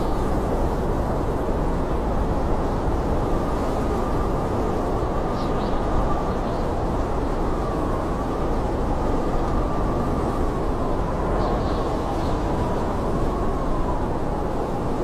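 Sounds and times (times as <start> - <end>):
blizzard wind rushing: 0.0 - 15.0.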